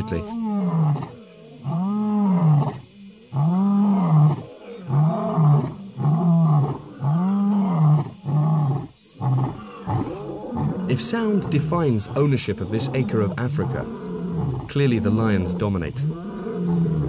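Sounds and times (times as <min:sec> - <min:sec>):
lion roaring: 0:00.0 - 0:17.0.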